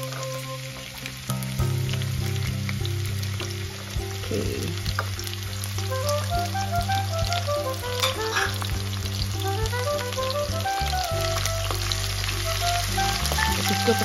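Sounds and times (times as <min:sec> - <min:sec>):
anchovies and garlic sizzling in oil: 0:00.0 - 0:14.0
background music: 0:00.0 - 0:14.0.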